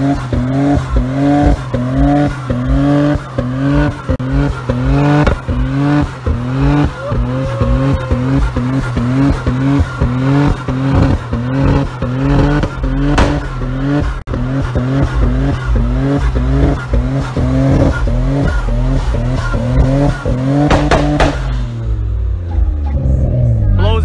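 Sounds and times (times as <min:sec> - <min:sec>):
tyres spinning and squealing: 0:00.0 - 0:23.4
car engine drone: 0:00.0 - 0:24.0.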